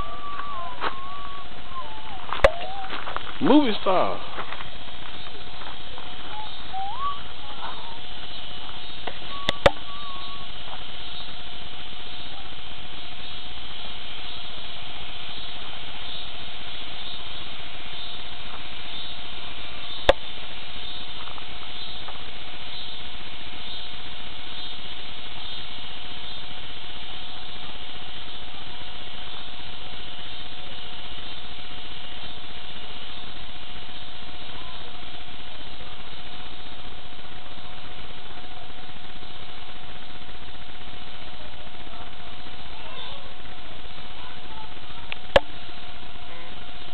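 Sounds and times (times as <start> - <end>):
faint constant tone: 0.0 - 46.9
steady hiss: 0.0 - 46.9.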